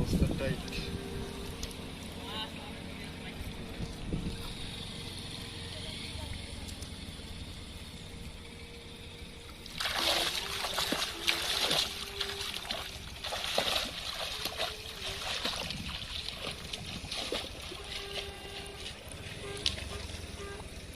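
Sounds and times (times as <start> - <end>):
water splashing and sloshing: 0.0 - 20.9.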